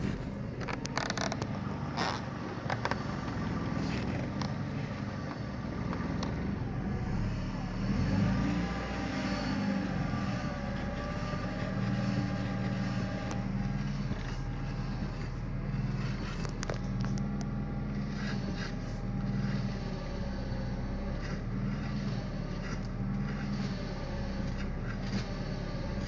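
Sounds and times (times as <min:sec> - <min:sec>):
car engine running: 0:00.0 - 0:26.0
power steering whine: 0:00.0 - 0:26.0.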